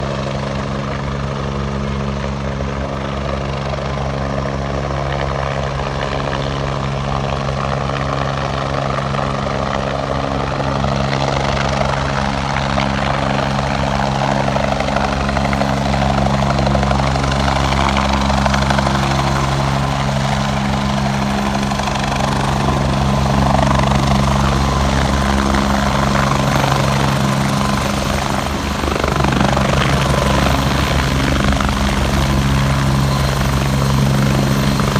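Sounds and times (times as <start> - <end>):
helicopter rotor and turbine: 0.0 - 34.9.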